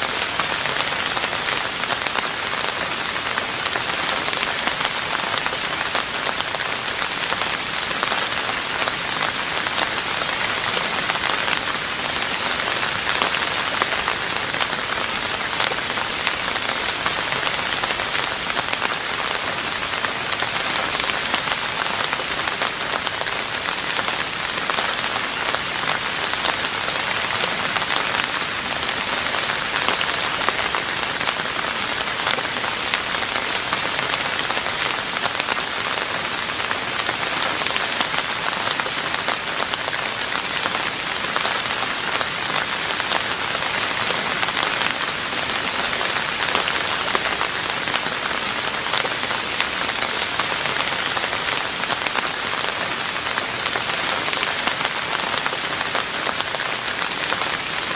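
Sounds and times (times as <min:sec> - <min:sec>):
rain falling on a roof: 0:00.0 - 0:57.9.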